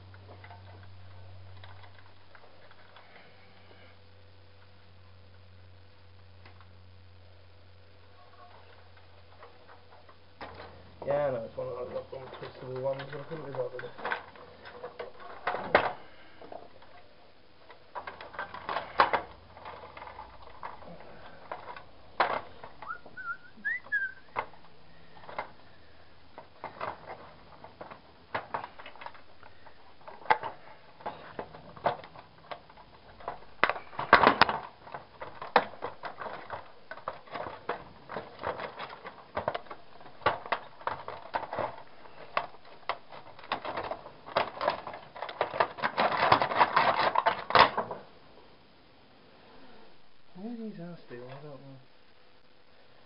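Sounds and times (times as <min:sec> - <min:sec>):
plastic and metal parts clattering: 0:00.0 - 0:03.9, 0:08.5 - 0:23.3, 0:23.9 - 0:48.2.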